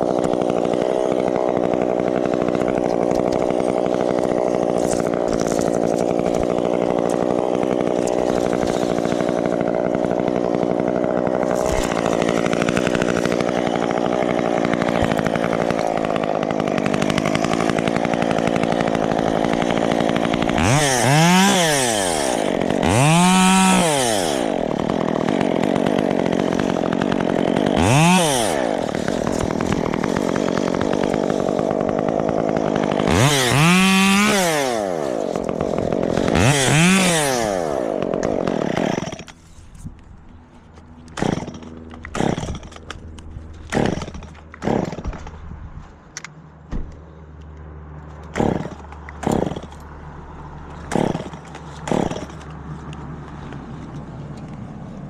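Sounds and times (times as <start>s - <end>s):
chainsaw idling and revving: 0.0s - 45.6s, 48.0s - 55.0s.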